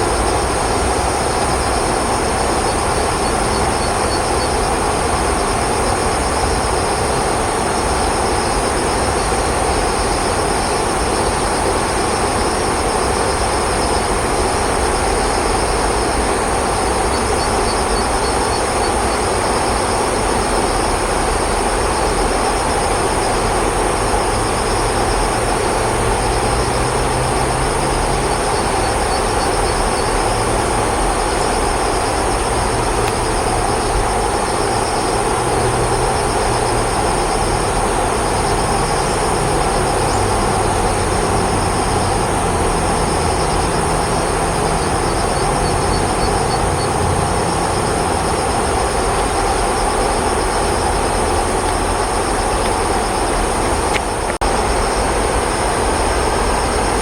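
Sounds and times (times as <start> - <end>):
passing traffic rumble: 0.0 - 57.0
pulsing high buzz: 0.0 - 57.0.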